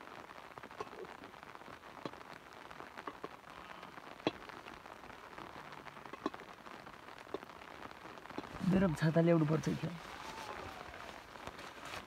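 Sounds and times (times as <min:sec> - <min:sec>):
light rain falling: 0:00.0 - 0:12.0
raindrops ticking close by: 0:00.0 - 0:12.0.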